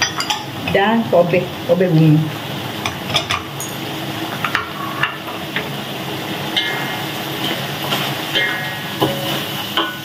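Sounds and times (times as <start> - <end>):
food sizzling in a wok: 0.0 - 10.0.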